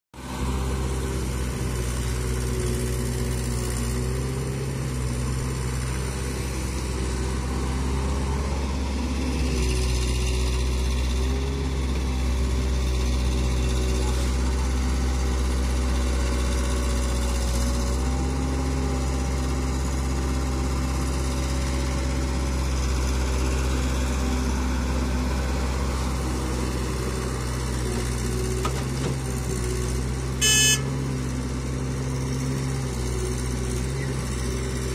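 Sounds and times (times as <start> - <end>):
diesel engines idling: 0.3 - 34.9.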